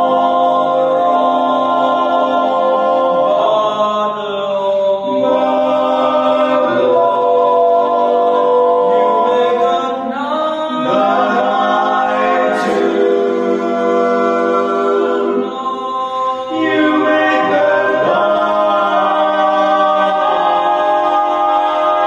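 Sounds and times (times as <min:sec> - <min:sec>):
men singing a cappella harmony: 0:00.0 - 0:22.0.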